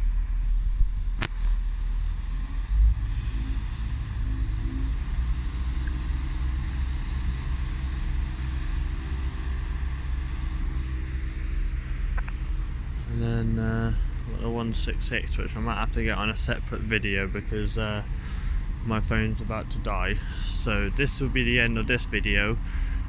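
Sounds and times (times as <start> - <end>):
train engines rumbling: 0.0 - 23.0.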